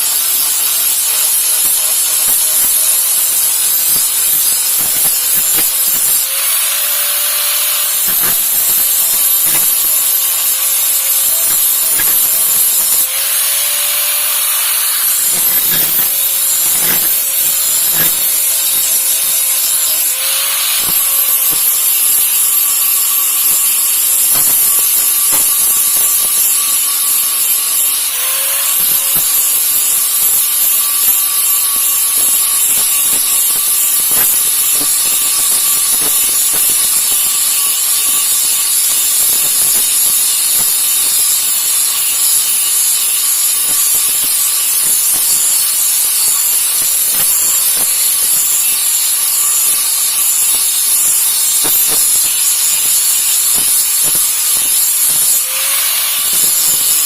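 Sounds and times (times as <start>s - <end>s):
power grinder grinding steel blade: 0.0s - 57.0s.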